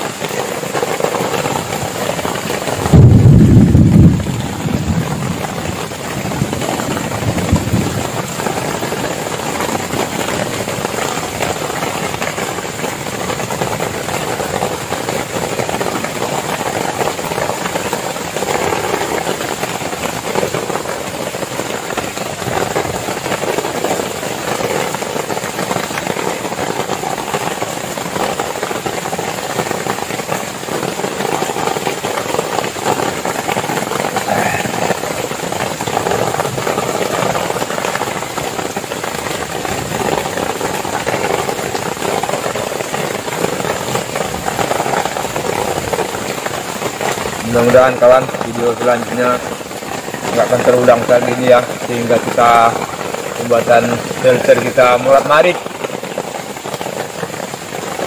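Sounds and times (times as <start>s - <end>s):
heavy rain on plastic tarp: 0.0s - 58.0s.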